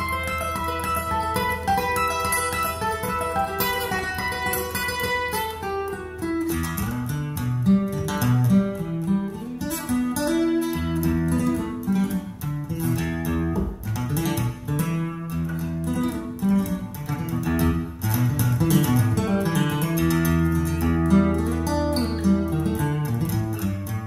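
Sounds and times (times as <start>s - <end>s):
acoustic guitar picking and strumming: 0.0s - 24.0s.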